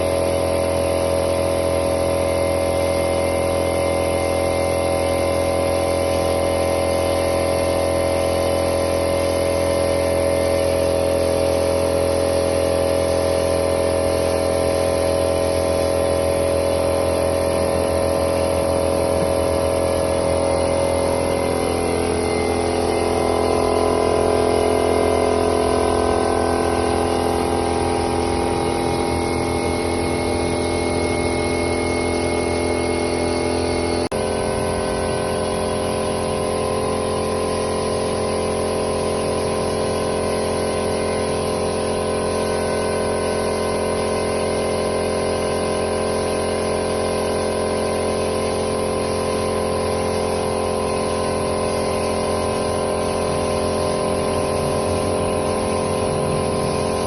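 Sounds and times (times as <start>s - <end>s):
motor-driven machine running: 0.0s - 57.0s.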